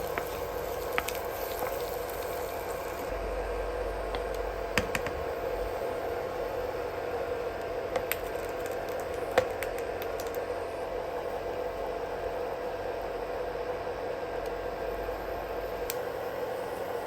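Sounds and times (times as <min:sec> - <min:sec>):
room noise hum and hiss: 0:00.0 - 0:17.0.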